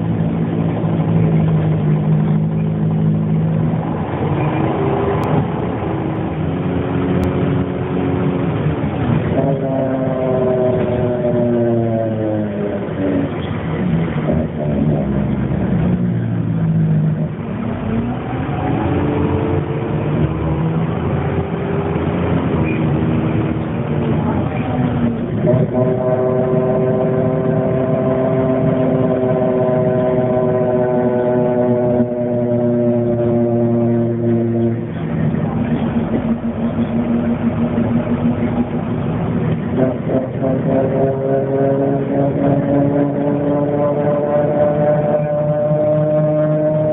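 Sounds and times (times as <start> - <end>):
bus engine under load: 0.0 - 46.9
droning tone: 0.0 - 46.9.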